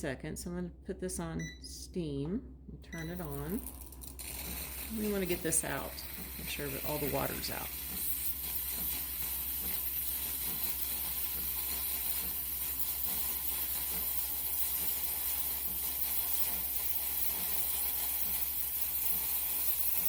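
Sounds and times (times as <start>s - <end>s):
espresso steam wand hissing: 3.1s - 20.0s.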